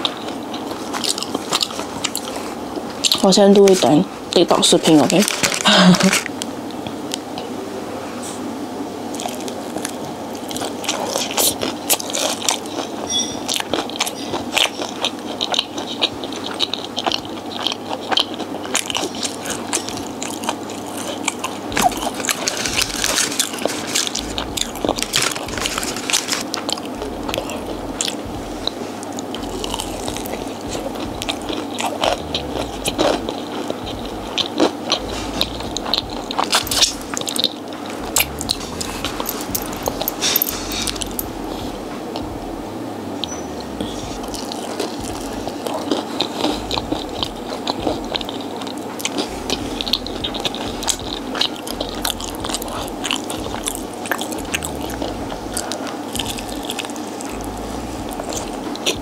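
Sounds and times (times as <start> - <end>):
crispy fried food being chewed: 0.0 - 7.5, 9.1 - 42.4, 43.0 - 59.0.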